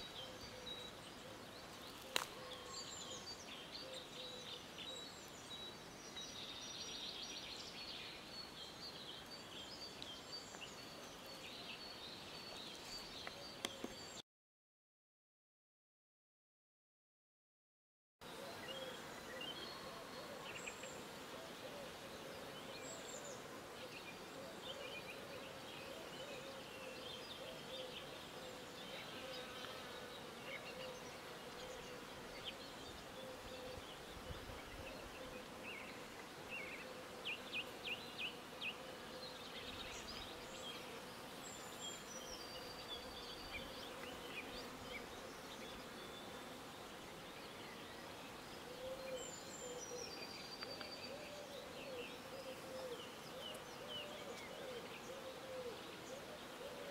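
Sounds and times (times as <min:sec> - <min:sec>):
songbirds chirping: 0:00.0 - 0:14.2, 0:18.2 - 0:56.9.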